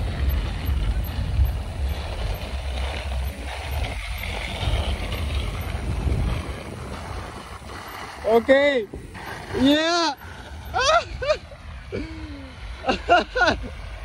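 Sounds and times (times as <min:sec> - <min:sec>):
bicycle tyres rolling on pavement: 0:00.0 - 0:14.0
wind buffeting microphone: 0:00.0 - 0:14.0.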